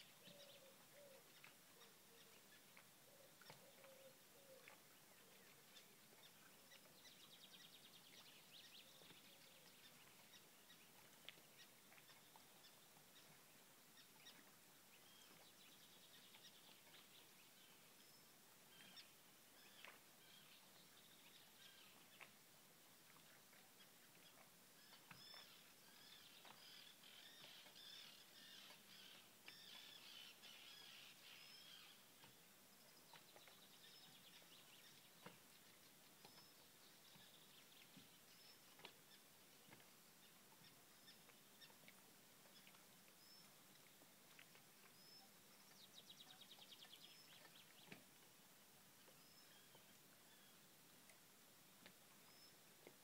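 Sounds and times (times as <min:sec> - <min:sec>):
steady low hiss: 0:00.0 - 0:53.0.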